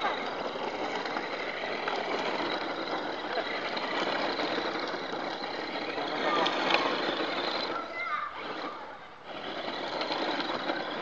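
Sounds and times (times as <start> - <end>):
toy car electric motor whirring: 0.0 - 11.0.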